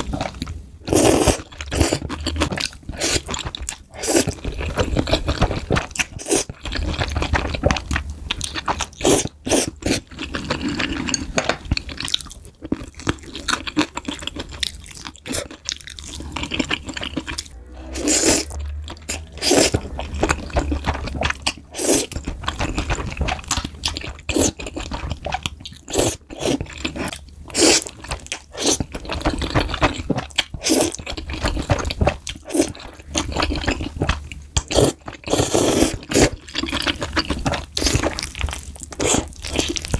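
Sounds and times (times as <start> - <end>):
person chewing with crunching: 0.0 - 39.9.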